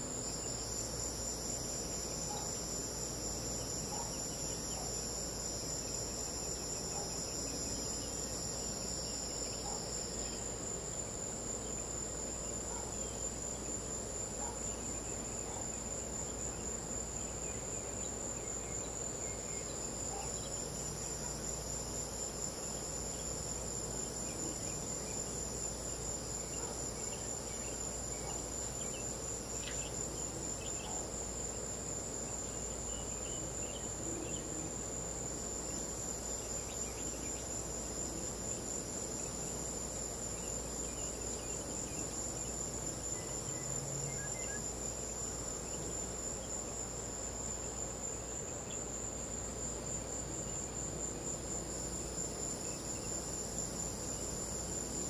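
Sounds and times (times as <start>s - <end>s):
crickets trilling: 0.0s - 55.0s
lower cricket trill: 0.0s - 55.0s.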